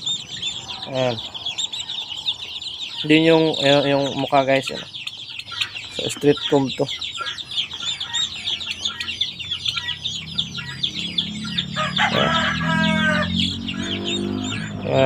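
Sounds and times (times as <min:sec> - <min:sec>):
adult chicken calling: 0:00.0 - 0:15.0
chicks peeping: 0:00.0 - 0:15.0.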